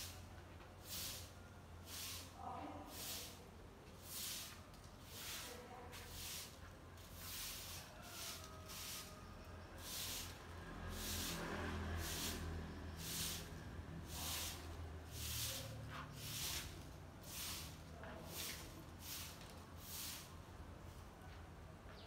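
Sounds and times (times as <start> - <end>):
broom sweeping wet tiles: 0.0 - 21.0.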